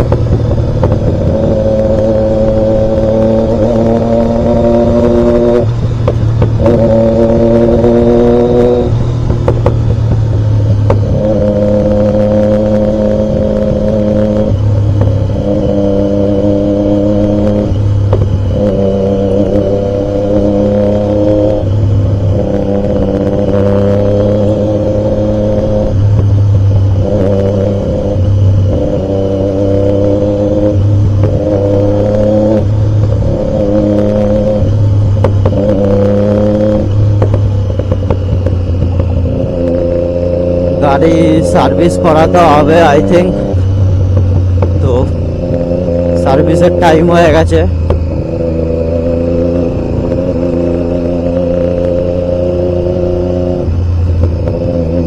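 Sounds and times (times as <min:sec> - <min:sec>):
motorcycle engine running loudly: 0:00.0 - 0:55.0.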